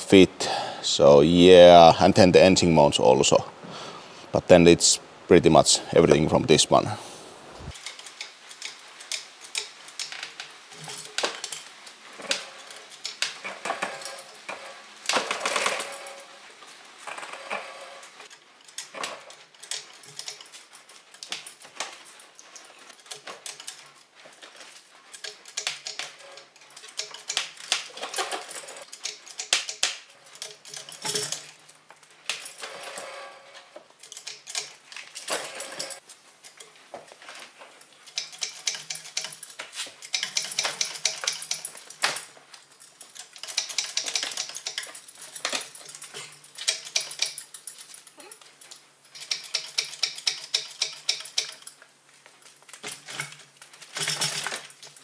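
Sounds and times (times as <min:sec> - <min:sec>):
metallic clicking and clanking: 0:07.7 - 0:55.0.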